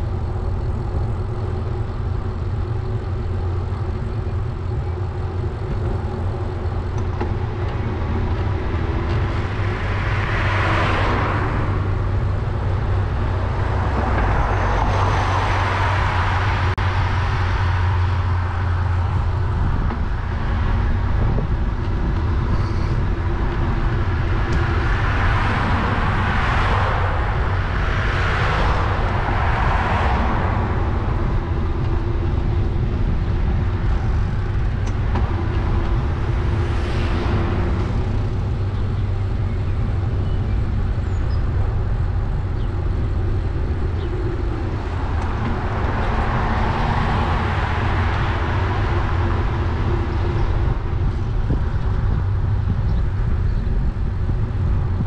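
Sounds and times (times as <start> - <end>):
passing road traffic: 0.0 - 55.0
wind and rolling tyres rumble: 0.0 - 55.0.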